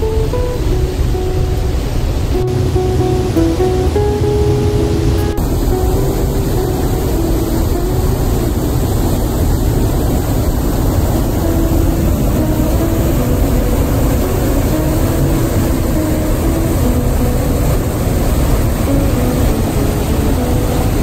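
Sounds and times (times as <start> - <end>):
faint background music: 0.0 - 9.0, 11.2 - 21.0
water rushing over rocks: 0.0 - 21.0.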